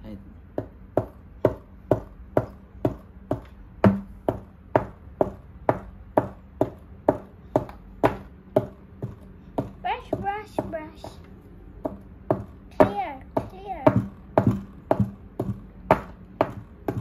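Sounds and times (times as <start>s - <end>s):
pick tapping into clay: 0.5s - 17.0s.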